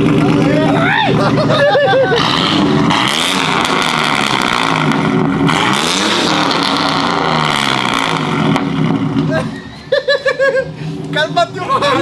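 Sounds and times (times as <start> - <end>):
pickup truck engine revving: 0.0 - 12.0.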